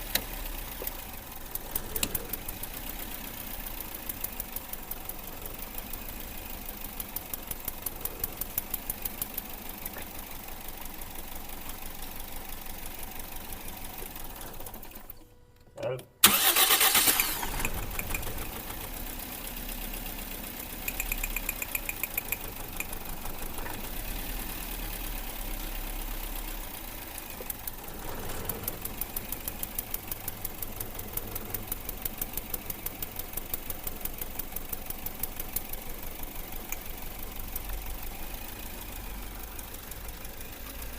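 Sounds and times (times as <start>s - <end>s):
car engine misfiring: 0.0s - 15.2s, 16.2s - 19.4s, 20.4s - 40.9s.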